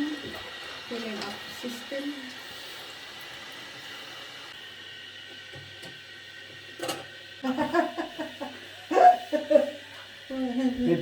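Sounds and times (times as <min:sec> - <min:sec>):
water filling toilet cistern: 0:00.0 - 0:11.0.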